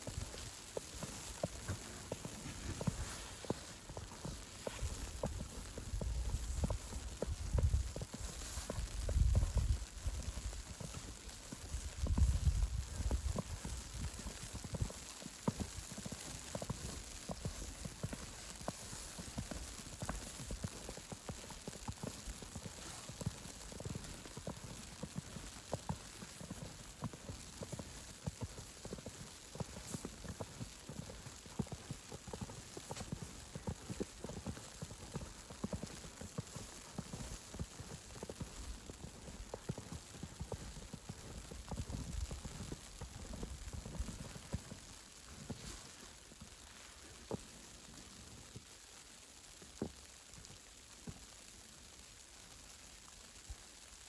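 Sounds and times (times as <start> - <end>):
footsteps crunching through snow: 0.0 - 48.5.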